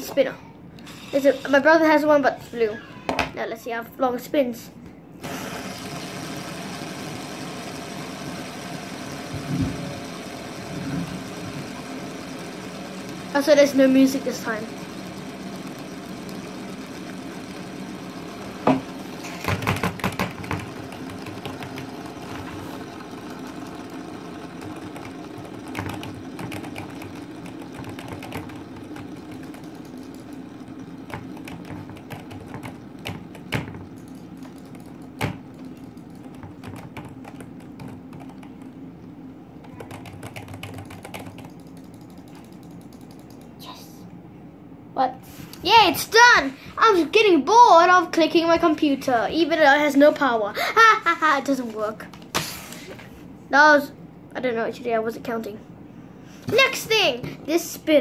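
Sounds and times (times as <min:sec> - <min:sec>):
fidget spinner whirring: 0:00.0 - 0:44.2, 0:45.0 - 0:55.6, 0:56.4 - 0:58.0.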